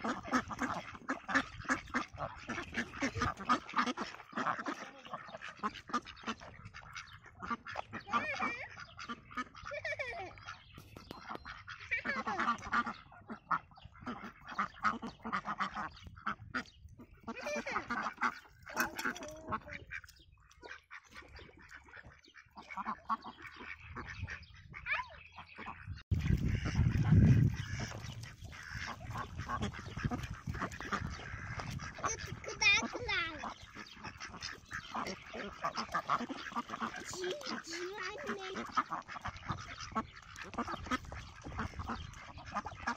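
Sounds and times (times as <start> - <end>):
ducks quacking: 0.0 - 42.9.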